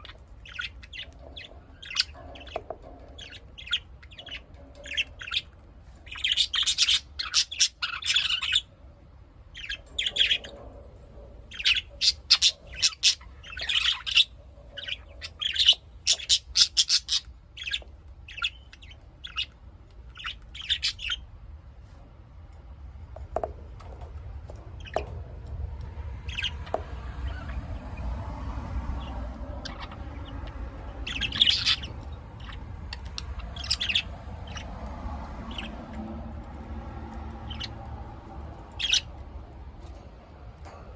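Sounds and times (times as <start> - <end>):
parrots chirping and chattering: 0.0 - 40.9.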